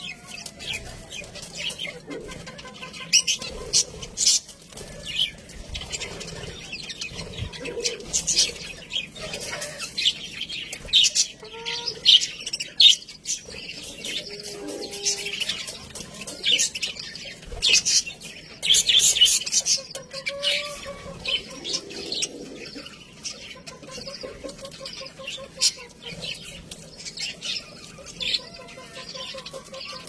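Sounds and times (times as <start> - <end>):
budgerigars chattering and chirping: 0.0 - 30.0.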